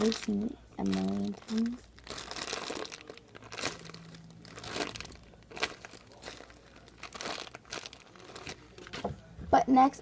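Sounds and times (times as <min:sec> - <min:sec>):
foam toy crinkling rustles: 0:00.0 - 0:09.1.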